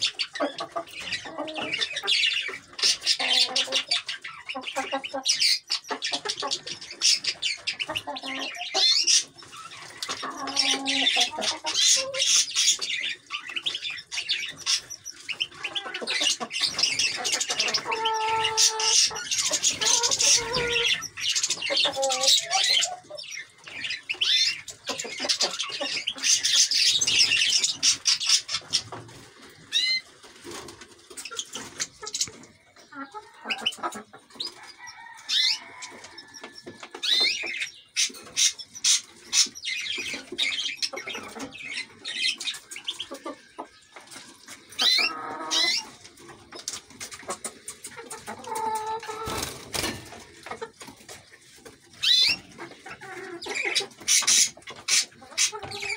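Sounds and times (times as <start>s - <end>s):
finches twittering and chirping: 0.0s - 30.0s, 31.1s - 43.7s, 49.3s - 55.9s.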